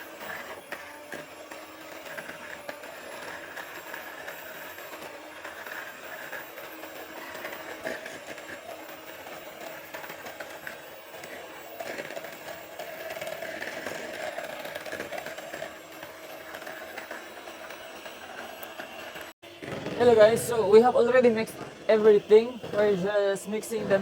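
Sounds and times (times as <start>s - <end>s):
beaters clicking and scraping bowl: 0.0s - 24.0s
electric mixer running: 0.0s - 24.0s.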